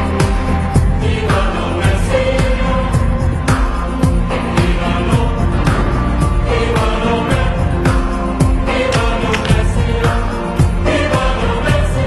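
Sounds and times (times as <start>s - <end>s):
pop music with singing: 0.0s - 12.0s.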